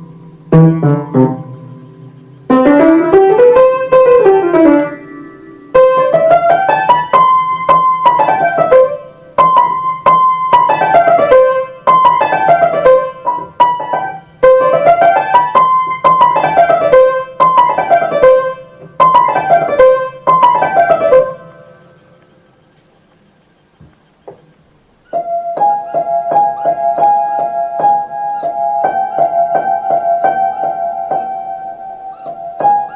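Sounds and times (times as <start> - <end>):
piano fast runs: 0.0 - 21.9, 25.0 - 32.9.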